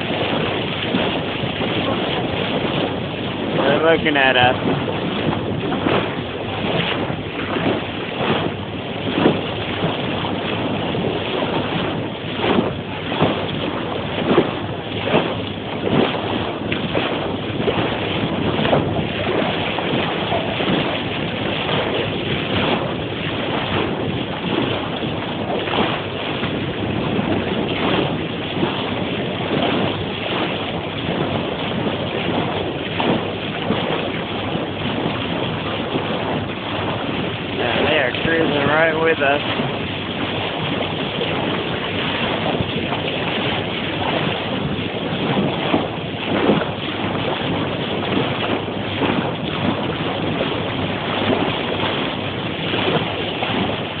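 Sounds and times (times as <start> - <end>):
water rushing past boat: 0.0 - 54.0
wind buffeting microphone: 0.0 - 54.0.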